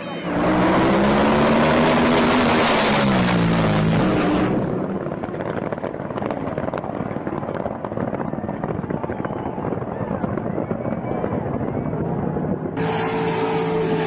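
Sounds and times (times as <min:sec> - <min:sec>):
powerboat engine running hard: 0:00.0 - 0:14.0.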